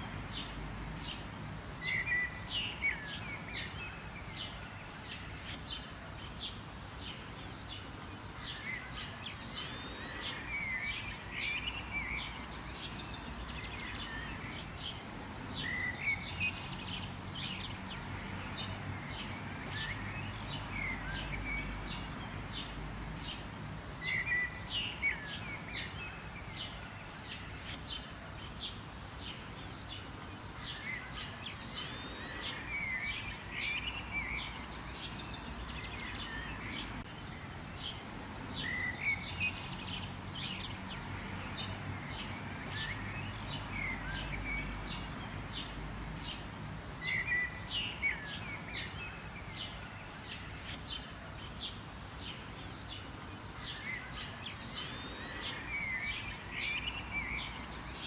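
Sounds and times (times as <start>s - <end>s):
low background noise: 0.0s - 58.0s
small birds chirping: 0.0s - 58.0s.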